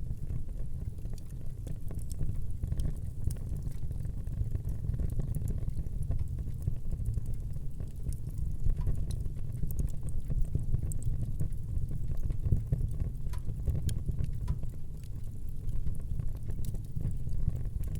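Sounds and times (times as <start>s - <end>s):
low rumble of burning fire: 0.0s - 17.9s
wood fire pops and snaps: 0.0s - 17.9s.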